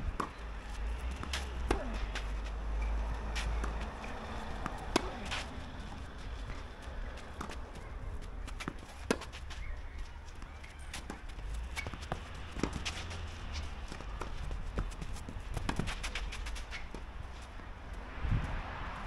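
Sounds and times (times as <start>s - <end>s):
footsteps on tennis court: 0.0s - 18.6s.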